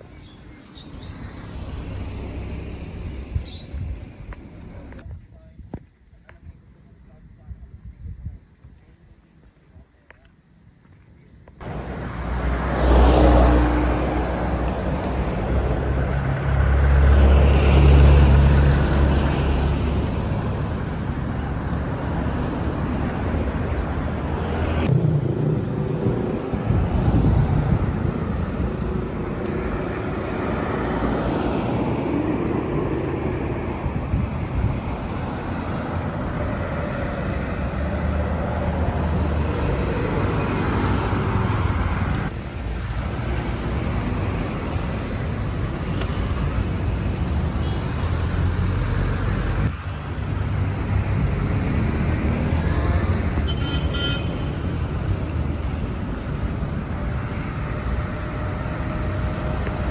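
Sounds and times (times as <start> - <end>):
motor vehicles passing: 0.0 - 5.0, 11.6 - 59.9.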